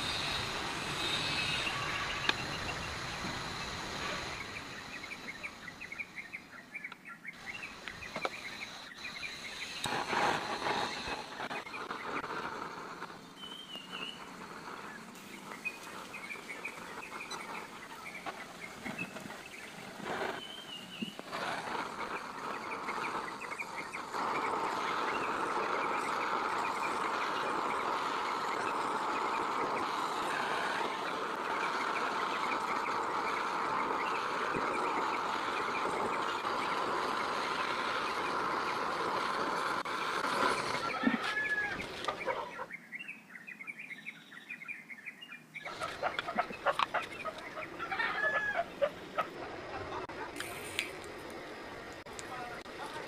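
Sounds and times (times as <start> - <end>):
gas torch flame hissing: 0.0 - 6.4, 7.4 - 42.5, 45.6 - 53.0
birds chirping: 0.0 - 53.0.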